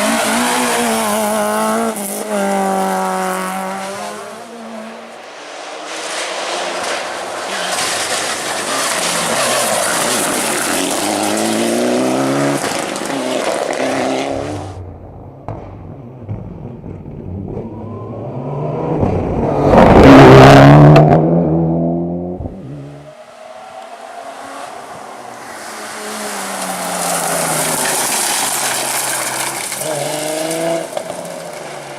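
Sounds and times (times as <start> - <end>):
rally car passing by: 0.0 - 14.8, 16.6 - 31.9
rally car engine revving: 0.0 - 31.9.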